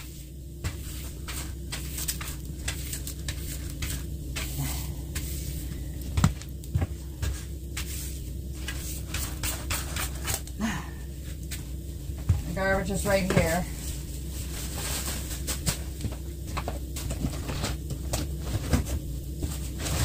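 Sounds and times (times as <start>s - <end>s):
low hum: 0.0s - 20.0s
wood fire crackling: 0.0s - 20.0s.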